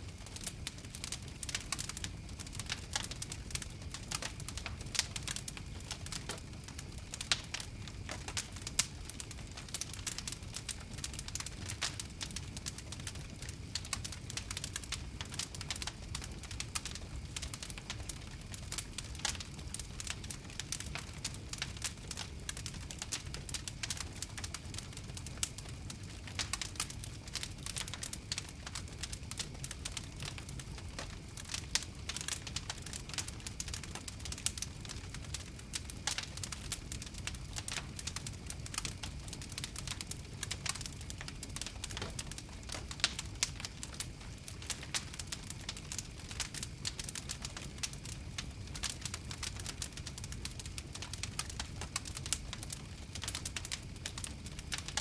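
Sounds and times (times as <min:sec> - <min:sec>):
low rumble of flames: 0:00.0 - 0:55.0
sharp pops and snaps of fire: 0:00.0 - 0:55.0
wood fire crackling: 0:00.0 - 0:55.0.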